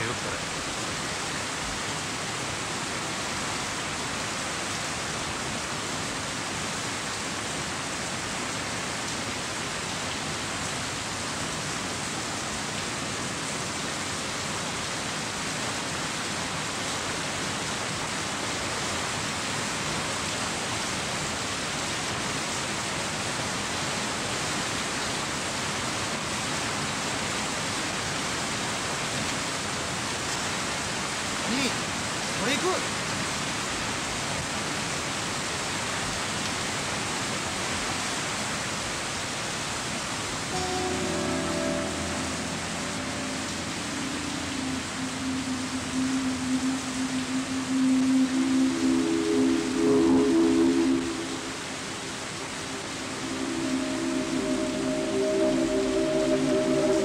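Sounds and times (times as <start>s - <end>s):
rushing falling water: 0.0s - 57.0s.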